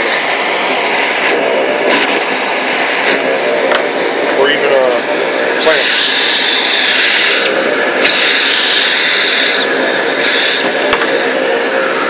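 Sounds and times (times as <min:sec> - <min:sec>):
dust collector rushing hiss: 0:00.0 - 0:12.0.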